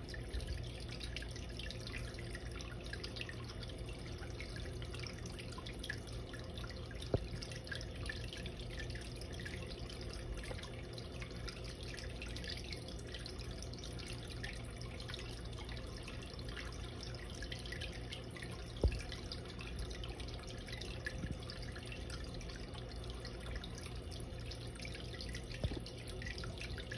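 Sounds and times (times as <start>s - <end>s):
water trickling and splashing: 0.0s - 26.9s.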